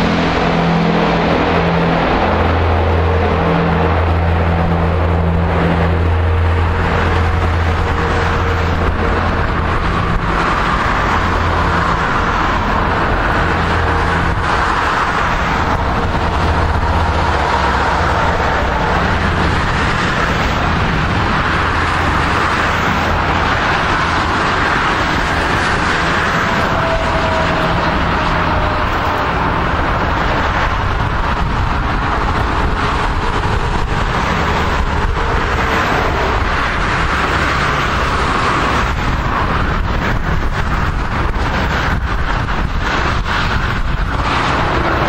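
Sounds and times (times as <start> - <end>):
engine whine dropping in pitch: 0.0 - 40.0
turboprop aircraft drone: 0.0 - 45.0.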